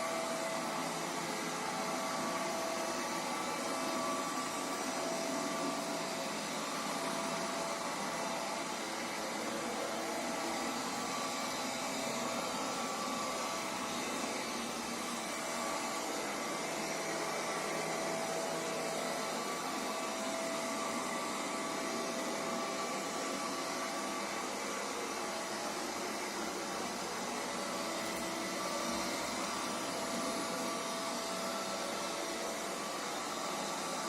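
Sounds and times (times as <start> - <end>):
robot vacuum cleaner whirring: 0.0 - 34.0.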